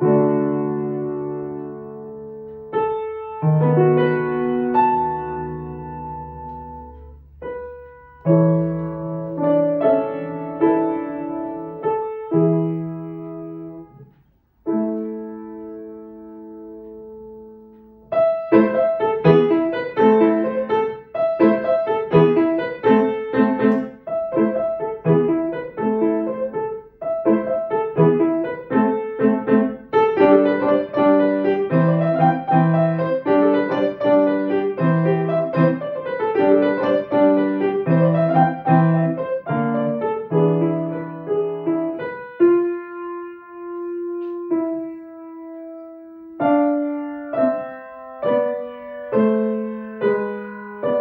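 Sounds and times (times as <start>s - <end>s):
solo grand piano: 0.0s - 51.0s.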